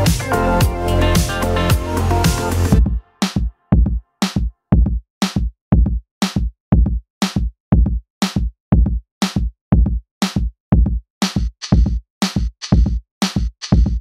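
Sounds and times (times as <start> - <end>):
drum machine beat: 0.0 - 14.0.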